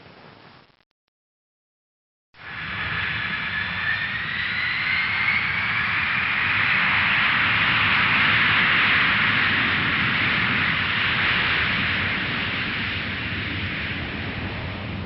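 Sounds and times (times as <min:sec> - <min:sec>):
airplane engine rushing: 0:02.4 - 0:15.0.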